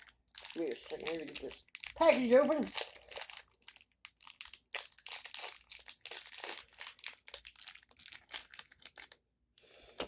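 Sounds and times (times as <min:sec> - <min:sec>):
packaging crinkling and tearing: 0:00.0 - 0:09.2.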